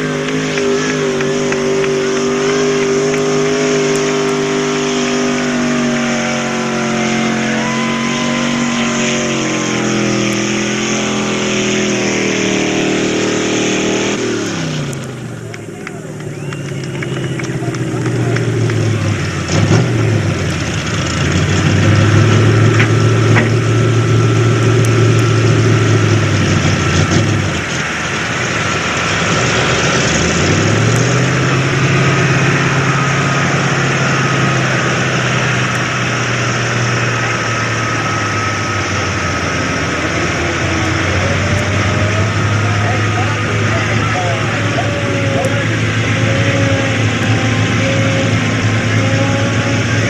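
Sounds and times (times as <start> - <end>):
pickup truck engine running: 0.0 - 50.0.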